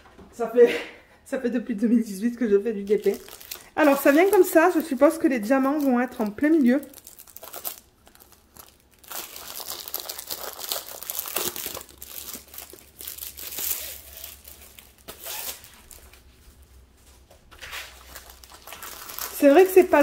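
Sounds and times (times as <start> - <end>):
plastic wrapping crinkling: 2.6 - 20.0.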